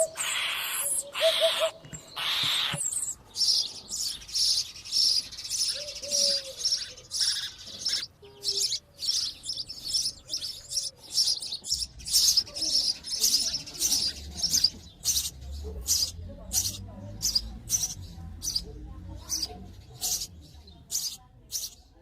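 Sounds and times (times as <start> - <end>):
sparrow chirping: 0.0 - 22.0.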